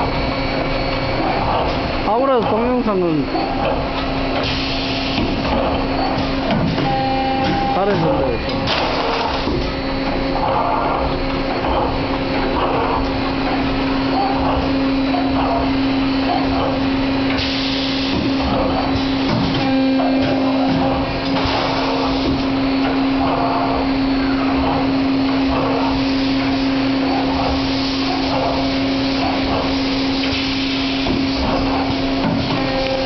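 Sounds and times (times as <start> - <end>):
machine motor hum: 0.0 - 33.0.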